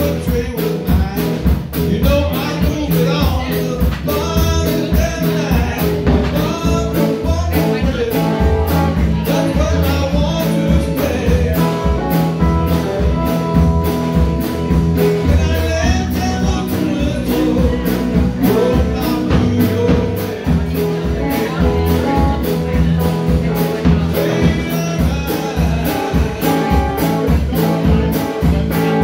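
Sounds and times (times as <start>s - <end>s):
rock blues band playing: 0.0s - 29.0s.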